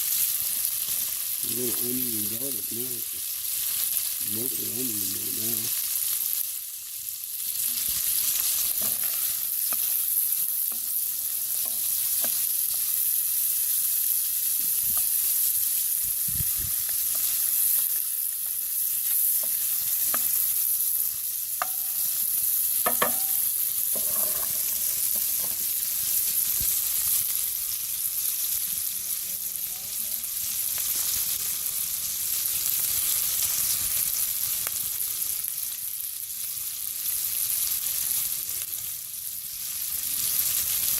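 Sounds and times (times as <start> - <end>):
onion and garlic sizzling in oil: 0.0 - 40.9.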